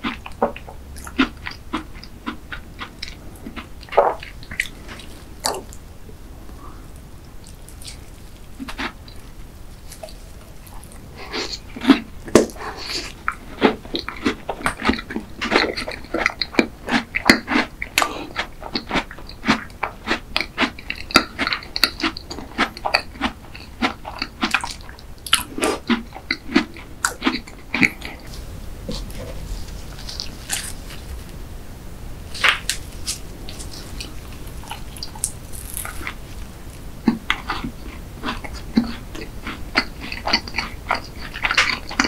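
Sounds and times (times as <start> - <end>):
wet chewing mouth sounds: 0.0 - 5.8, 6.5 - 31.4, 32.4 - 42.0.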